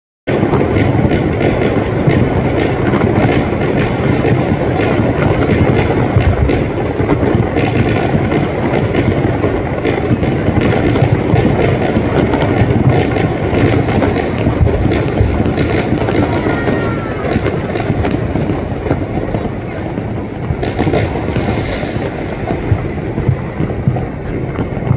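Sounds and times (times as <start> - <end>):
continuous fireworks rumble: 0.3 - 24.9
fireworks cracks and bangs: 0.3 - 24.9.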